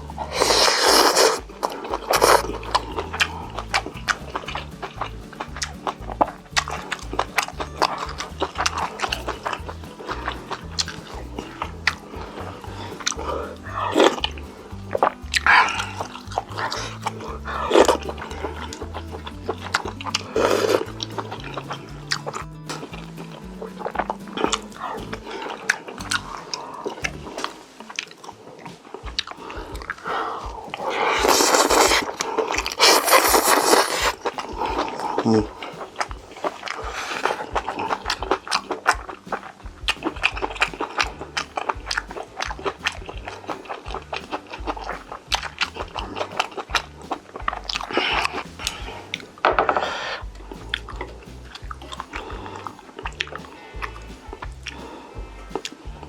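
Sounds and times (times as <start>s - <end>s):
person biting and chewing food: 0.0s - 56.0s
rushing mouth noises: 0.0s - 56.0s
small wet clicks: 0.0s - 56.0s.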